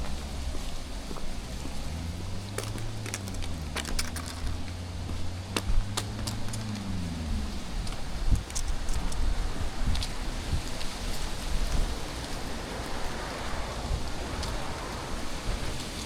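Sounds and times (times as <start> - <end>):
footsteps crunching dry leaves: 0.0 - 16.0
vehicle engine hum passing: 0.0 - 16.0.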